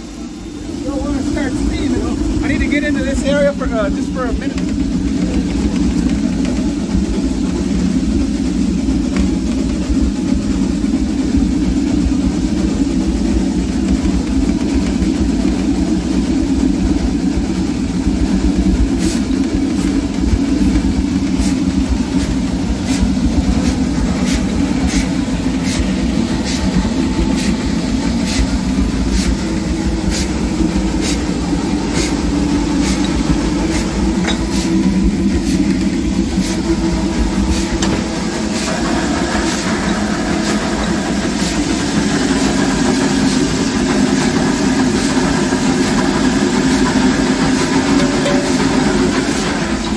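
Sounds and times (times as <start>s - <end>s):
steam locomotive running noise: 0.0s - 49.9s.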